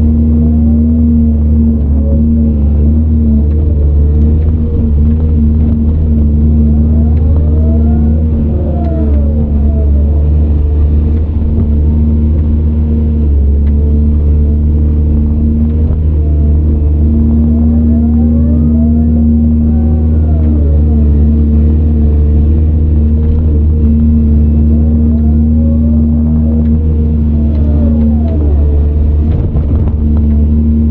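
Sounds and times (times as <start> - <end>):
diesel engine running under load: 0.0 - 30.9.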